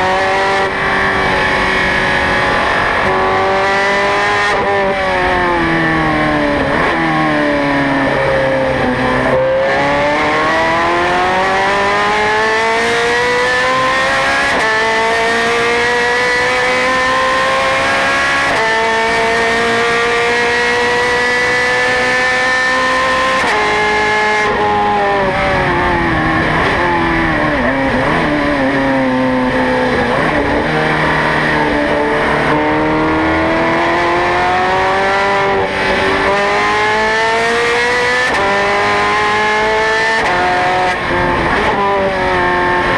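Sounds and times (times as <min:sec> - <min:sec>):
racing car engine with gear changes: 0:00.0 - 0:42.9.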